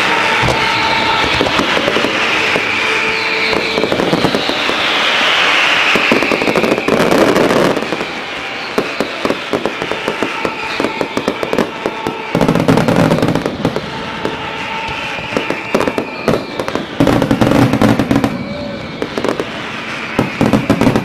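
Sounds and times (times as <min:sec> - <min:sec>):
fireworks cracking and popping: 0:00.0 - 0:21.0.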